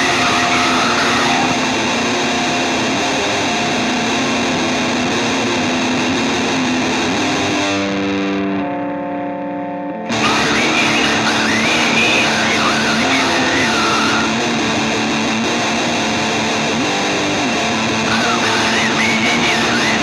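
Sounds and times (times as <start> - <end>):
rock music with distorted guitar: 0.0 - 20.0.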